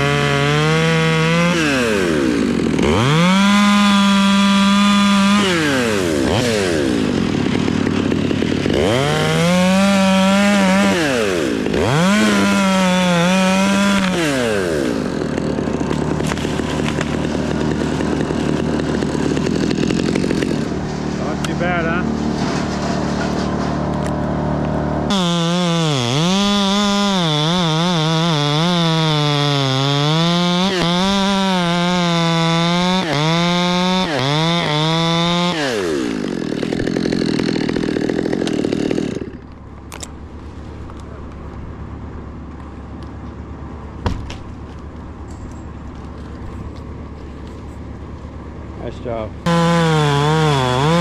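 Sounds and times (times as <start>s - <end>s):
chainsaw cutting: 0.0s - 43.7s, 44.3s - 51.0s
steady engine hum: 0.0s - 51.0s.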